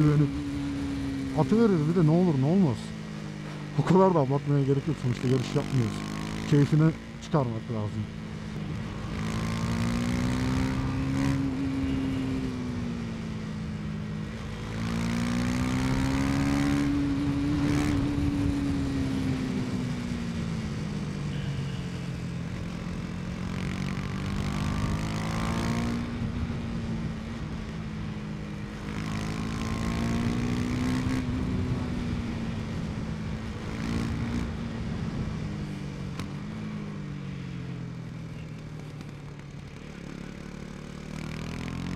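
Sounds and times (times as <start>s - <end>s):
motorcycle engine revving: 0.0s - 36.9s, 38.3s - 41.9s.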